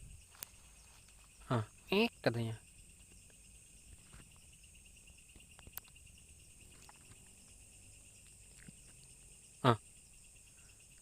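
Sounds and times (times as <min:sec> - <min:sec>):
night insects chirping: 0:00.0 - 0:11.0.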